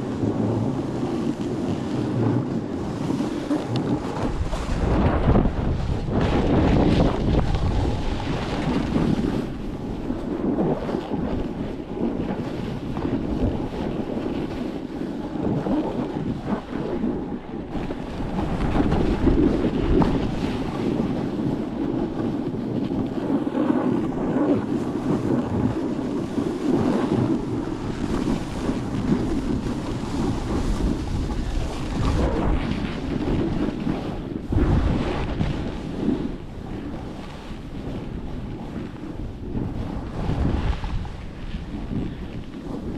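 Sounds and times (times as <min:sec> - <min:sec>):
wind gusts on microphone: 0:00.0 - 0:42.9.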